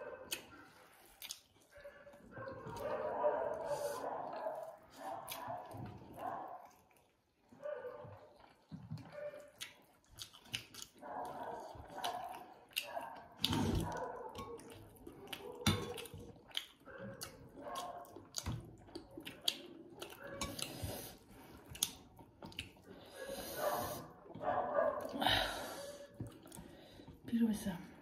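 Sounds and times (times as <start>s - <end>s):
people chewing food: 0.0s - 28.0s.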